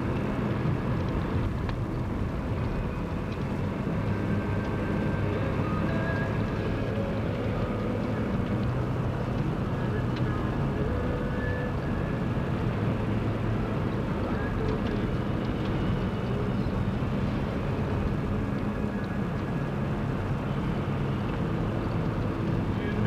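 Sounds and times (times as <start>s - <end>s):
road noise: 0.0s - 23.0s
vehicle engine hum: 0.0s - 23.0s.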